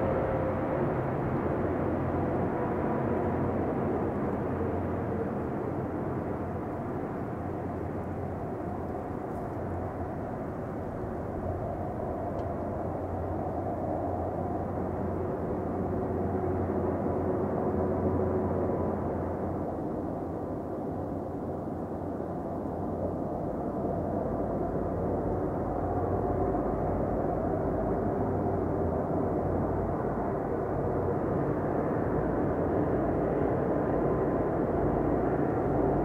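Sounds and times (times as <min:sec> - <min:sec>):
airliner jet engines running: 0:00.0 - 0:36.0
faint steady whine: 0:00.0 - 0:36.0.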